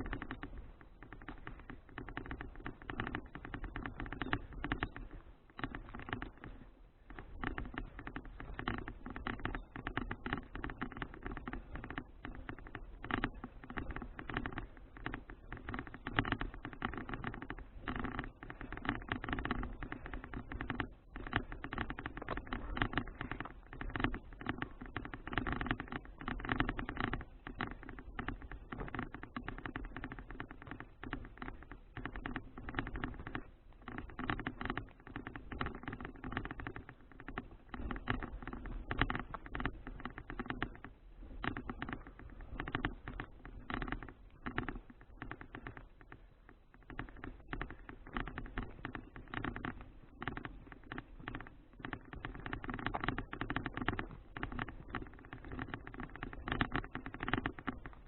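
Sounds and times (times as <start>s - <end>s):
bicycle crackle and rattle: 0.0s - 58.0s.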